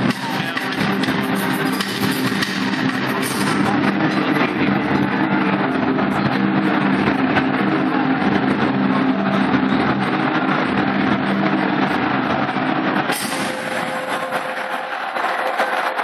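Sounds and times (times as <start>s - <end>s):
droning notes: 0.0s - 15.5s
loud music over loudspeakers: 0.0s - 16.0s
stadium crowd roaring: 0.0s - 16.0s.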